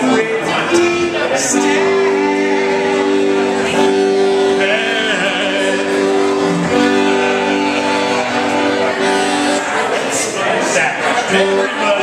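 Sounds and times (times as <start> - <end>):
person singing: 0.0 - 9.8, 11.1 - 12.0
accordion chords: 0.0 - 12.0.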